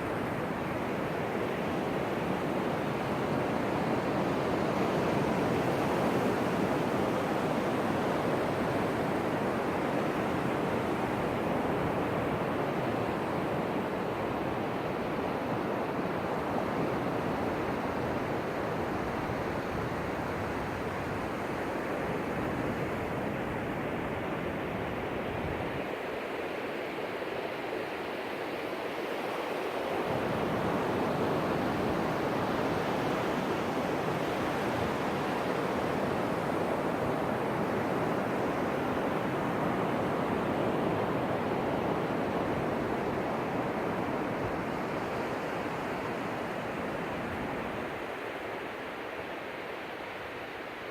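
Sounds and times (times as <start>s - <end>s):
ocean surf breaking on beach: 0.0s - 50.9s.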